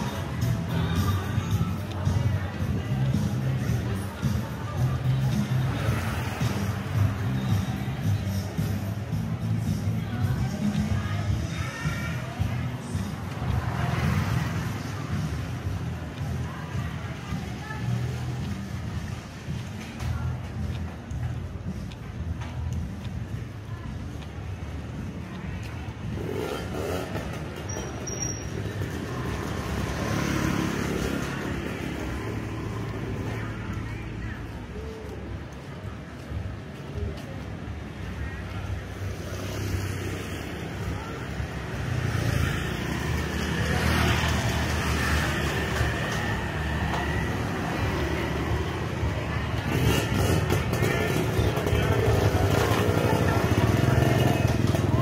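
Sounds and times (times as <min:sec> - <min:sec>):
street traffic: 0:00.0 - 0:55.0
vehicle engines humming: 0:00.0 - 0:55.0
voices: 0:00.0 - 0:55.0.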